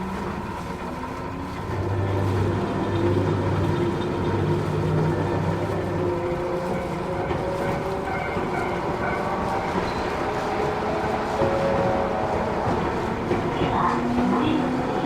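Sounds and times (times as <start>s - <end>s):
traction motor hum: 0.0s - 15.0s
train wheels on rails: 0.0s - 15.0s.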